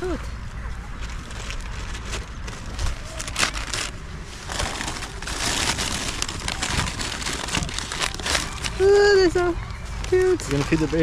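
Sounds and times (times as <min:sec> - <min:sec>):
paper bag crinkling: 0:00.9 - 0:11.0.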